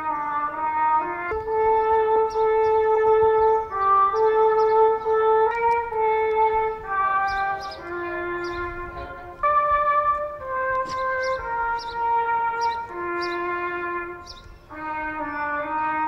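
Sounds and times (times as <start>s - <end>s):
slow brass music: 0.0s - 16.0s.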